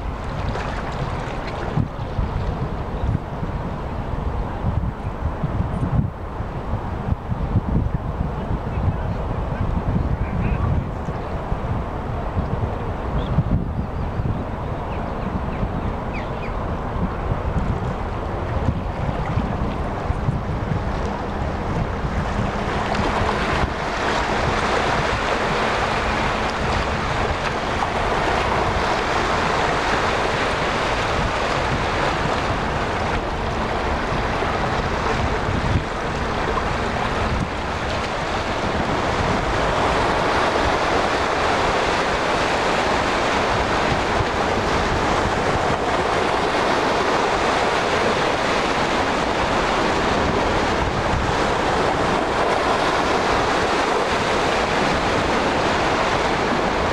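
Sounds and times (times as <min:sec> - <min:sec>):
sea waves: 0:00.0 - 0:09.9, 0:14.0 - 0:56.9
wind buffeting microphone: 0:00.0 - 0:56.9.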